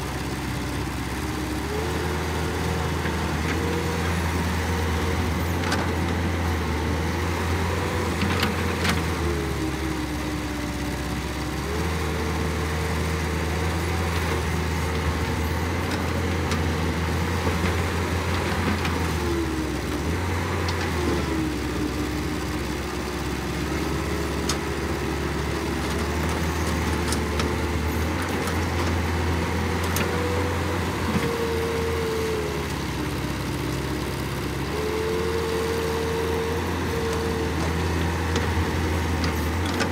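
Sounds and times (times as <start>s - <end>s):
excavator diesel engine working: 0.0s - 39.9s.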